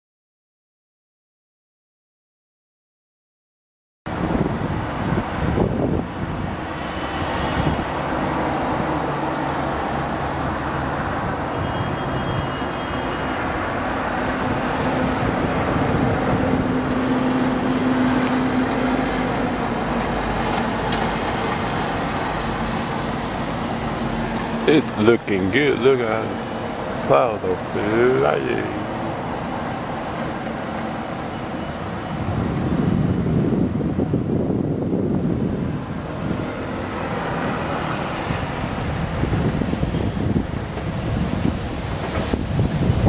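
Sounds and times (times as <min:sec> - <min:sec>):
wind buffeting microphone: 0:04.1 - 0:12.6, 0:13.7 - 0:28.1, 0:28.7 - 0:43.0.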